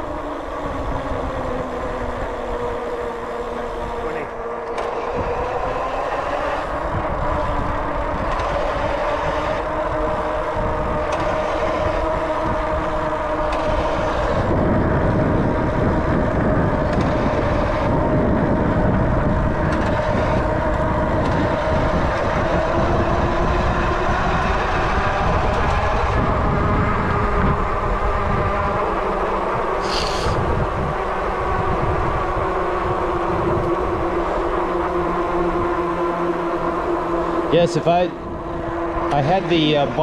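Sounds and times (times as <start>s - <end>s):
vehicle rumble with droning tone: 0.0s - 40.0s.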